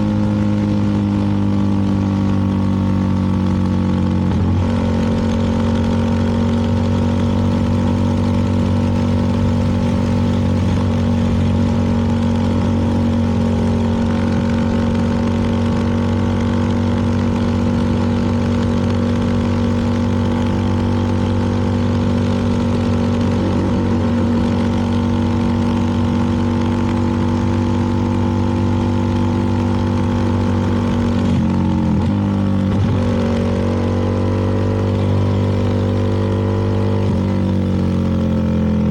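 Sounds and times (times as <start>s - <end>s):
motorcycle engine running: 0.0s - 38.9s
riding wind and road noise: 0.0s - 38.9s.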